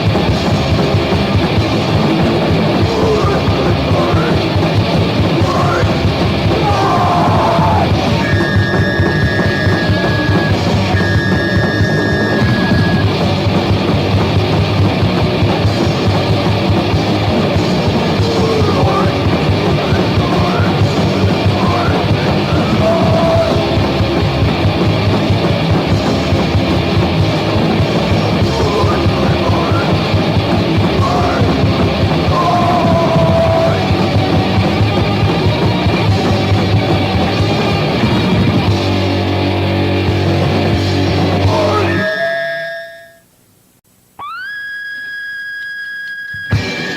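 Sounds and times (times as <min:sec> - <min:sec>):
drum kit: 0:00.0 - 0:42.6, 0:46.5 - 0:46.9
bass guitar: 0:00.0 - 0:43.2, 0:46.3 - 0:46.9
distorted guitars: 0:00.0 - 0:46.9.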